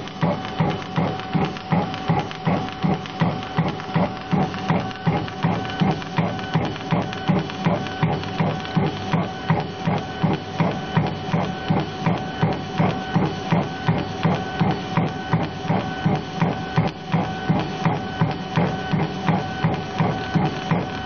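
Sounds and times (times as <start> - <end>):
laser head whirring back and forth: 0.0 - 21.0.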